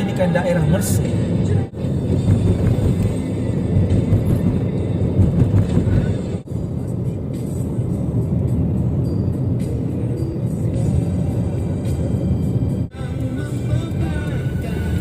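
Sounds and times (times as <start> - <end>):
background music: 0.0 - 15.0
low steady rumble: 1.0 - 15.0.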